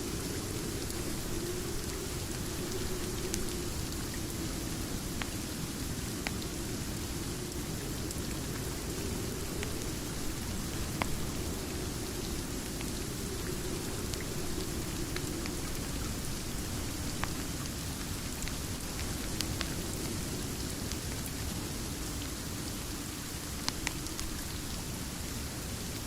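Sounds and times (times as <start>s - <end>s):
wood fire crackling: 0.0s - 21.6s
steady rain falling: 0.0s - 26.0s.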